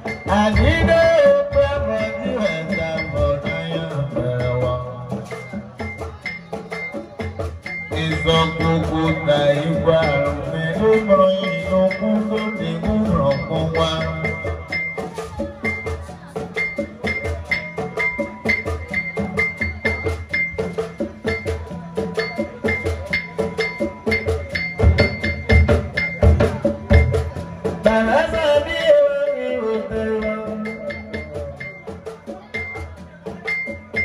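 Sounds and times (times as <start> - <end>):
fast dense percussion: 0.0 - 34.0.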